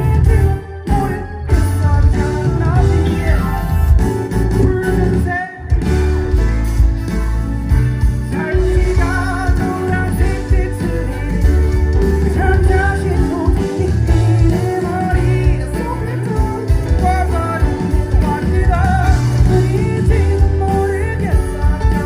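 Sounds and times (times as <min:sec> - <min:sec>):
man singing: 0:00.0 - 0:06.3, 0:08.2 - 0:22.0
pop-rock band playing: 0:00.0 - 0:22.0.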